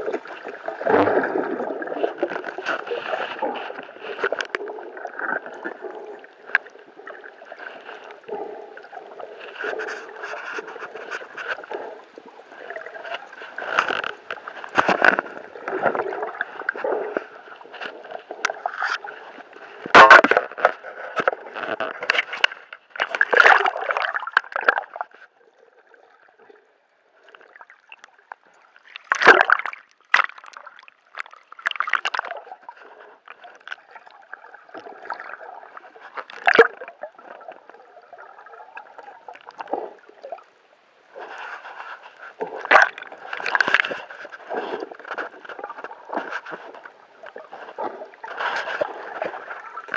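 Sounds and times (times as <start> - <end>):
water splashing around boat: 0.0 - 49.9.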